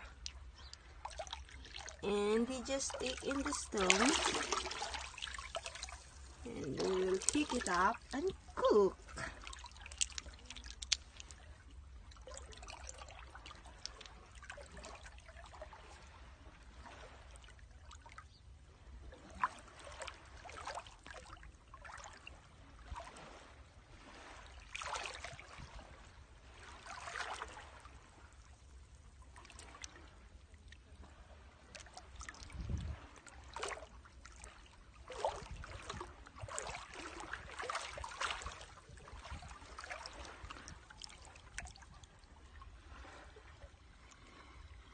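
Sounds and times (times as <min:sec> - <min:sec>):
small waves sloshing against rocks: 0:00.0 - 0:44.9.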